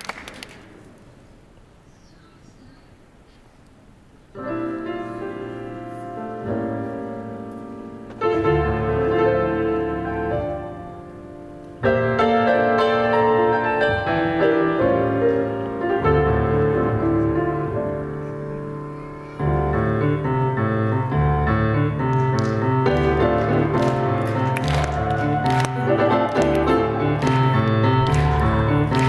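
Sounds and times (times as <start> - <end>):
piano chords: 4.3 - 29.0.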